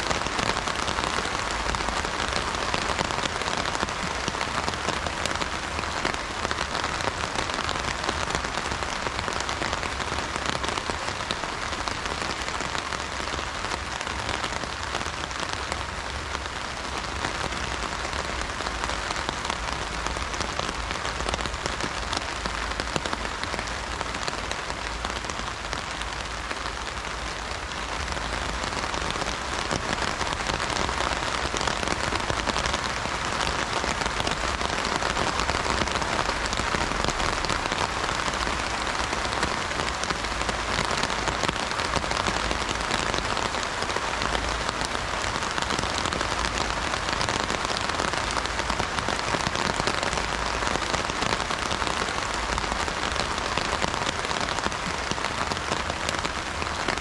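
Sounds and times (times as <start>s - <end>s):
heavy rain drumming on an umbrella: 0.0s - 57.0s.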